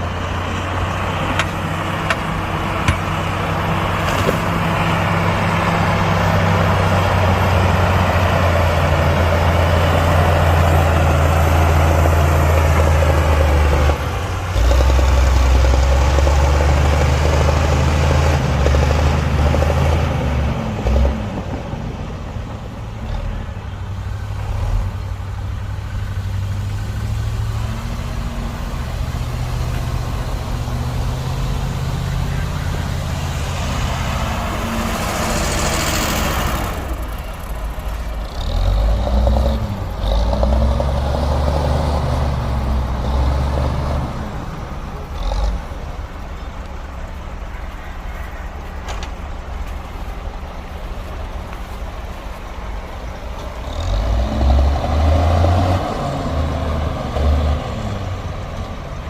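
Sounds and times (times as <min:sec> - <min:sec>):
heavy diesel machinery revving: 0:00.0 - 0:59.0.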